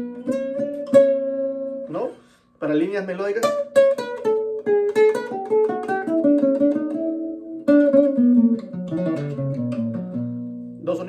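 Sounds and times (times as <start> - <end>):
acoustic guitar thumb-plucked melody: 0.0 - 11.0.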